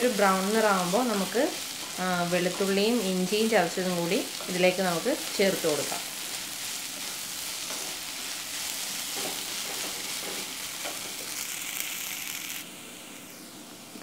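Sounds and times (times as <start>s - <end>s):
onions sizzling in oil: 0.0s - 14.0s.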